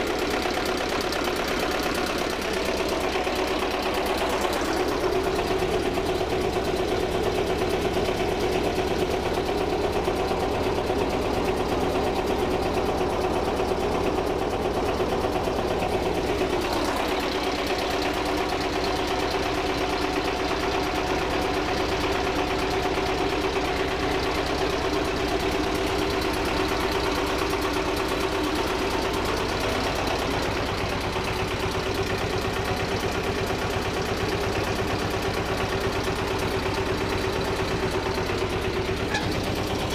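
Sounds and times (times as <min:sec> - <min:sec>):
diesel boat engine knocking: 0:00.0 - 0:39.9.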